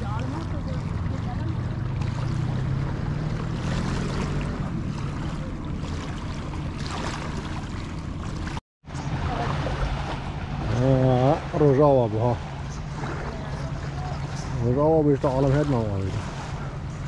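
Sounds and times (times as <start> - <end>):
car road and engine drone: 0.0 - 17.0.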